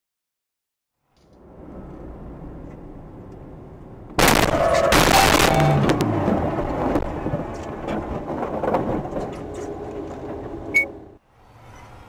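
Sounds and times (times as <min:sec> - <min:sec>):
rumbling of car wreck: 0:01.3 - 0:11.2.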